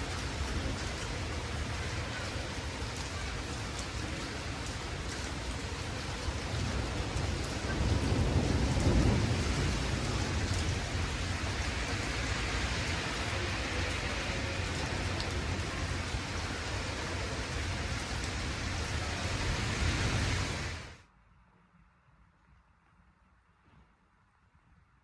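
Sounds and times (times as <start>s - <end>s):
low rumble of thunder: 0.0s - 21.0s
steady rain falling: 0.0s - 21.1s.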